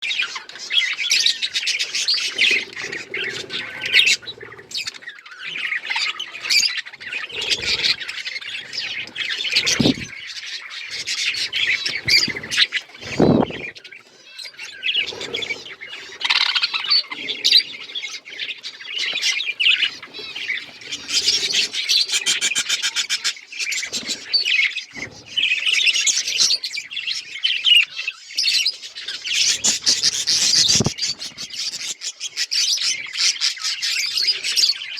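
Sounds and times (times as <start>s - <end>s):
harsh bird squawks: 0.0s - 24.8s, 29.1s - 34.9s
budgerigars chirping and chattering: 0.0s - 34.9s.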